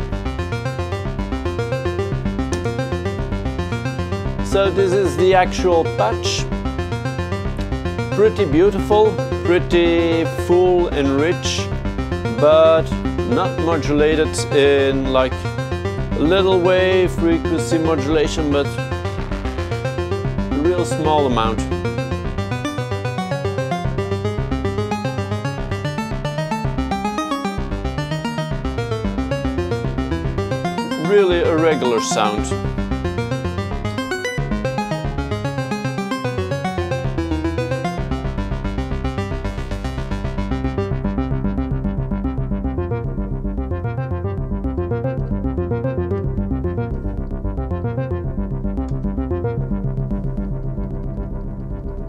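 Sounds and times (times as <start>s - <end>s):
synthesizer looping note sequence: 0.0s - 52.0s.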